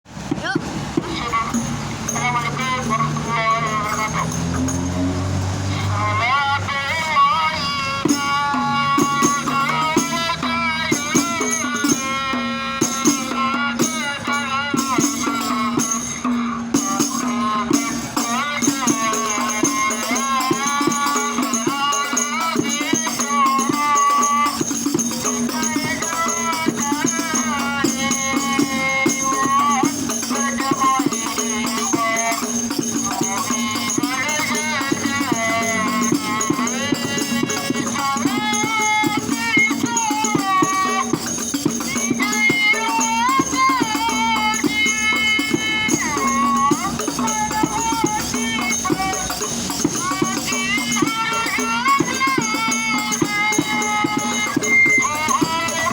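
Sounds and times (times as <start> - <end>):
frame drums and jingling percussion: 0.1 - 55.9
person singing devotional melody: 0.2 - 55.9.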